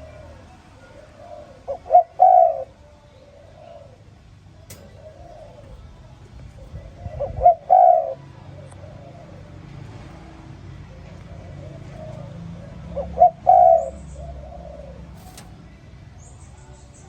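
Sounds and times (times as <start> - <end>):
dove cooing: 0.0 - 9.8, 10.9 - 15.5.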